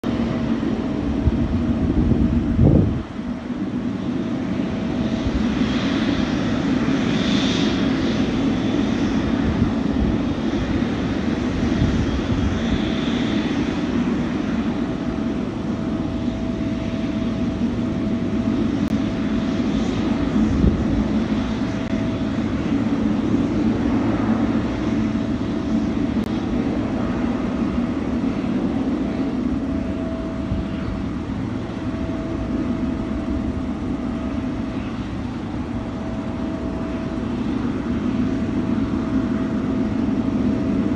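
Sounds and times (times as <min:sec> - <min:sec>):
airplane engines droning: 0:00.0 - 0:40.9
faint steady whine: 0:00.2 - 0:40.9.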